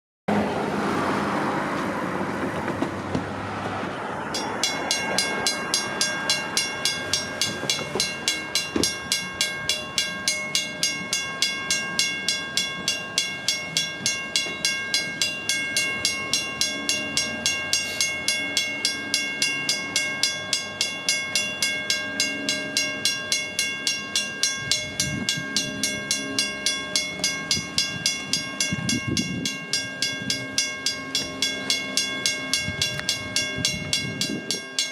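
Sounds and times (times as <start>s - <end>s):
railroad crossing bell ringing: 3.9s - 34.9s.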